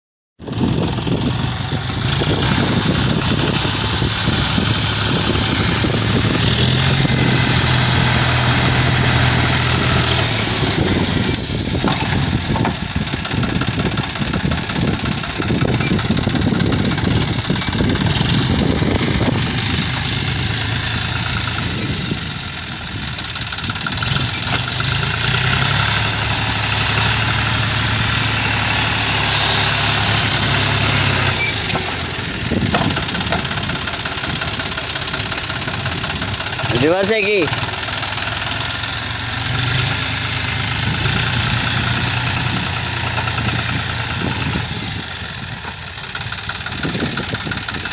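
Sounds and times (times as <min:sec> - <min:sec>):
tractor diesel engine running: 0:00.4 - 0:47.9.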